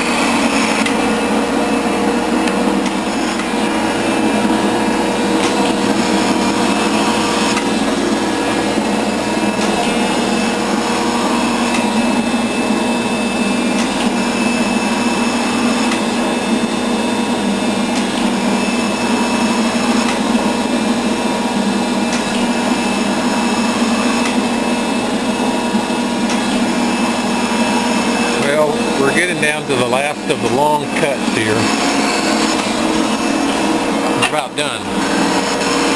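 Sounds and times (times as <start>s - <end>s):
hydraulic machine hum: 0.0s - 35.9s.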